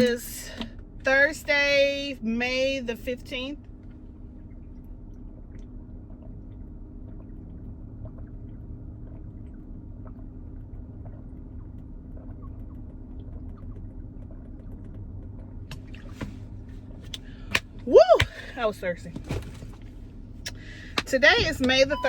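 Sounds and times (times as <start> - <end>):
car cabin hum: 0.0 - 22.0.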